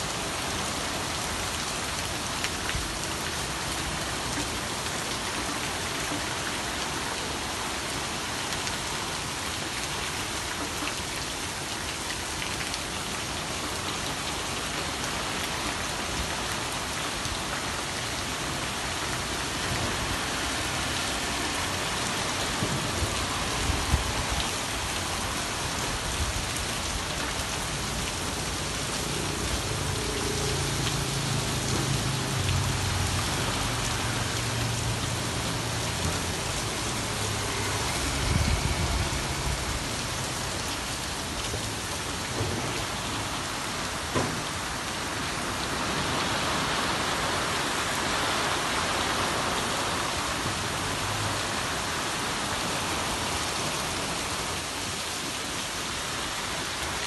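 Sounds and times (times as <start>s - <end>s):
rain falling on flooded street: 0.0s - 57.0s.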